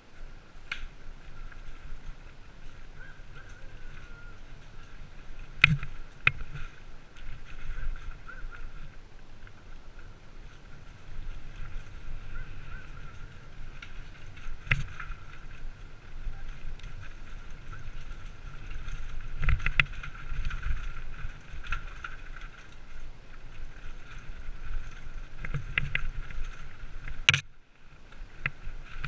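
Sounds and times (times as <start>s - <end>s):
wind rumble on microphone: 0.0s - 29.0s
bike rattling and knocking: 0.6s - 27.5s.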